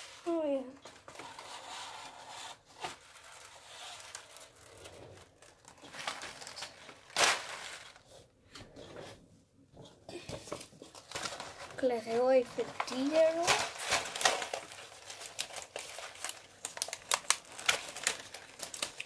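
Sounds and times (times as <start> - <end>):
plastic packaging rustling: 0.0 - 8.3, 10.2 - 19.0.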